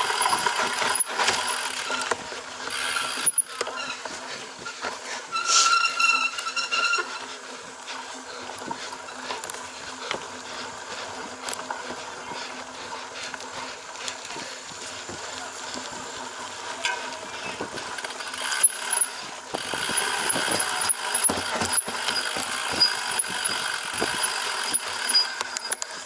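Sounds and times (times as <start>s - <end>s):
bike clicks and rattles: 0.0s - 26.0s
bike tyres crackling on dirt: 0.0s - 26.0s.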